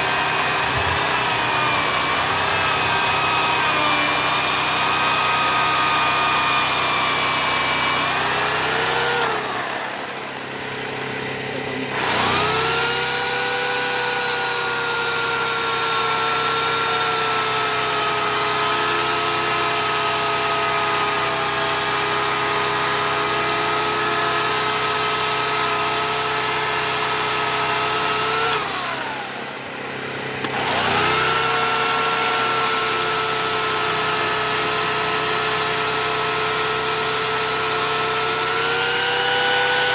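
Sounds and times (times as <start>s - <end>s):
electric chainsaw cutting wood: 0.0s - 39.9s.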